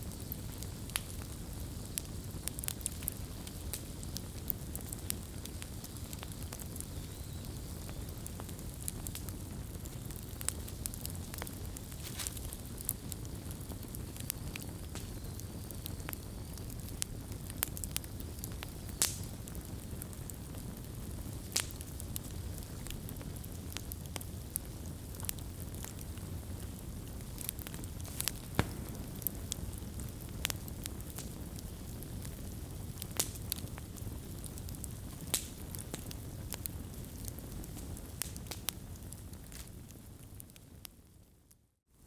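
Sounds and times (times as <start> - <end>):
wood fire burning: 0.0 - 41.5.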